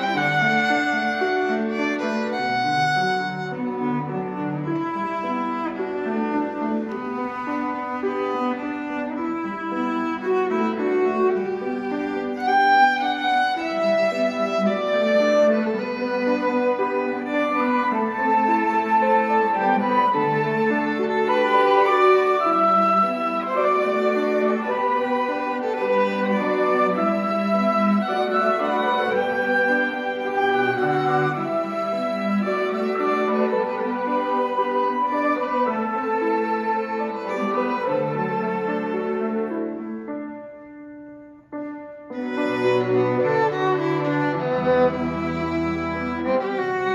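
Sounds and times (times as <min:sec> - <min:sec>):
violins and cello: 0:00.0 - 0:40.3, 0:42.1 - 0:46.9
flute: 0:00.0 - 0:46.9.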